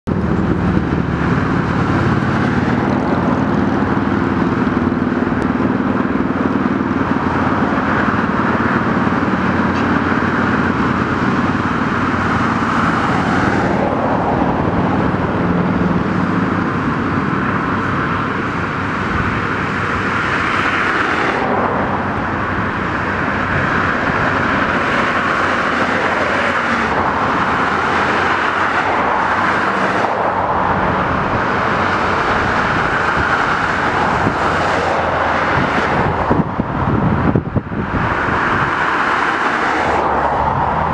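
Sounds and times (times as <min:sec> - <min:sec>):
cars driving past: 0:00.1 - 0:40.9.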